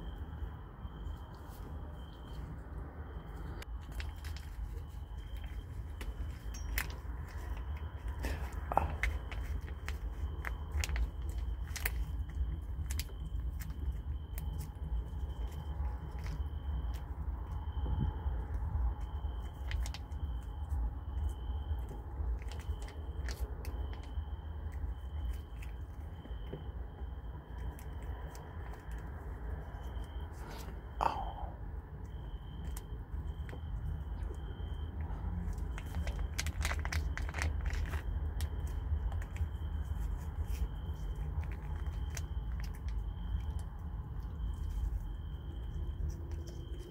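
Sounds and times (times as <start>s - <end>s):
kitten licking and eating: 0.1s - 46.9s.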